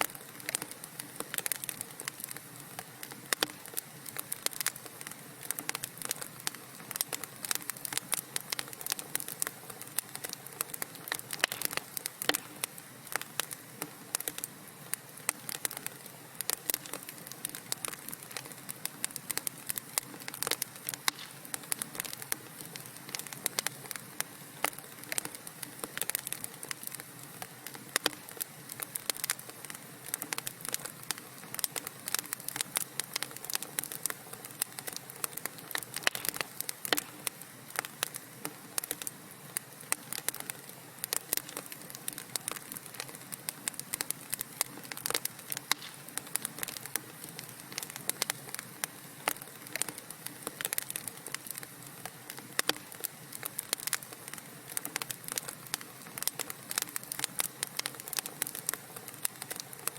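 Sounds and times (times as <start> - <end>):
soft steady hiss: 0.0 - 59.9
wood fire crackling: 0.0 - 59.9.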